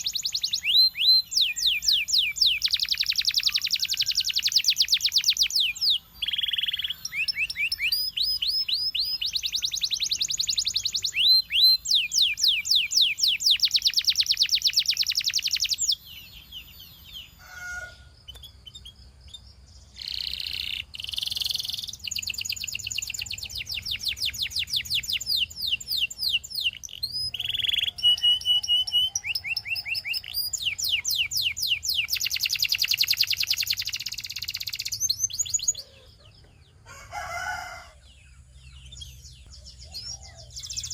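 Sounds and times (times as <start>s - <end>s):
canary singing in fast trills: 0.0s - 40.9s.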